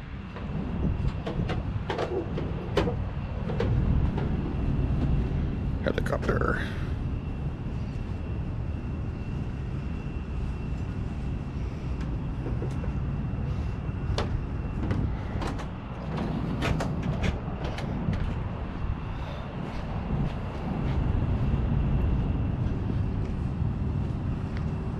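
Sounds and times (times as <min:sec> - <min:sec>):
faint high whine: 0:00.0 - 0:24.9
low outdoor rumble: 0:00.0 - 0:24.9.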